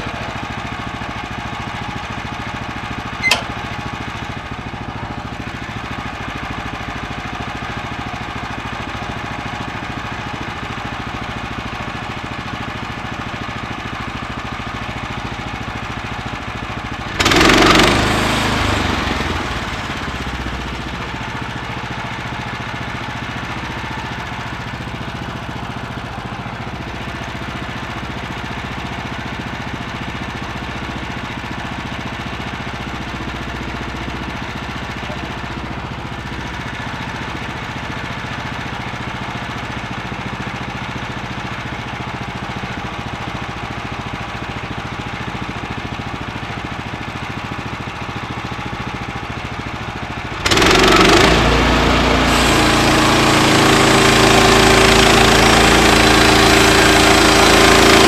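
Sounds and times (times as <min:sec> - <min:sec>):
small gasoline engine idling: 0:00.0 - 0:58.0.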